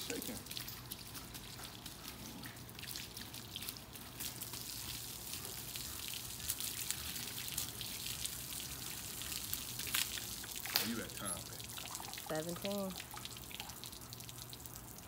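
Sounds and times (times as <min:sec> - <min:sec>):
hose water splashing: 0:00.0 - 0:15.0.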